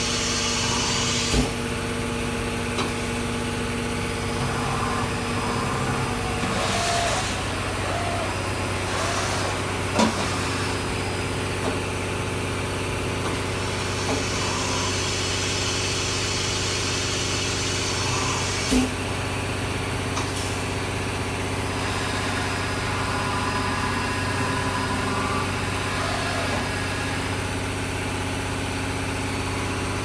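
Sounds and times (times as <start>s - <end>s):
machine mechanical hum: 0.0s - 30.0s.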